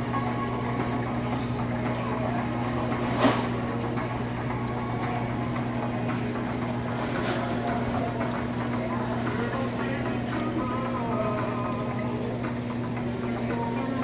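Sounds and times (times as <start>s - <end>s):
aquarium filter pump humming: 0.0s - 14.0s.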